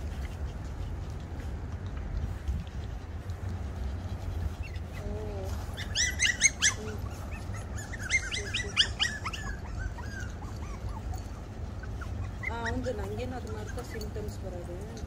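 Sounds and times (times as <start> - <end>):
puppies yipping: 2.8 - 15.0.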